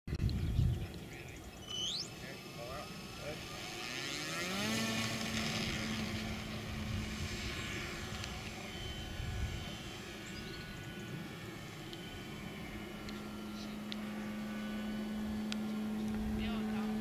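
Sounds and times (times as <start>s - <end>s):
model plane motor and propeller: 0.2s - 17.0s.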